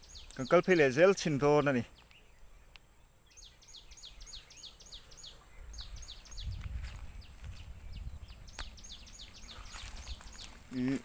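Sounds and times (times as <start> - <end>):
bird singing downward notes: 0.0 - 11.0.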